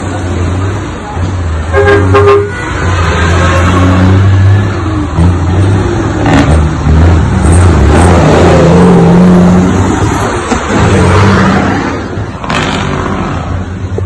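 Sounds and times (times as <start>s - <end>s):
dump trucks driving past: 0.0s - 14.0s.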